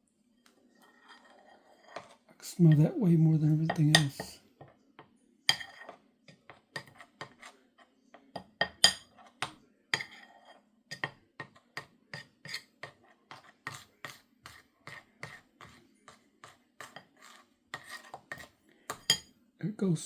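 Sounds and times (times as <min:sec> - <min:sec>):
spoon scraping and clinking bowl: 0:00.8 - 0:04.4, 0:05.5 - 0:07.6, 0:08.4 - 0:19.3.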